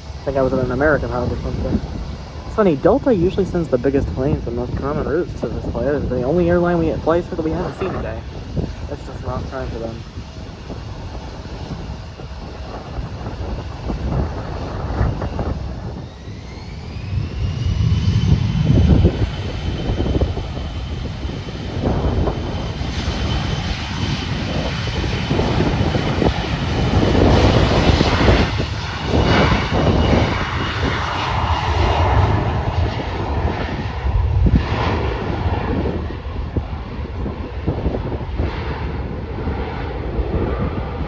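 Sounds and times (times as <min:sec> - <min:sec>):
jet engines whining: 0:00.0 - 0:41.0
wind on microphone: 0:00.0 - 0:41.0.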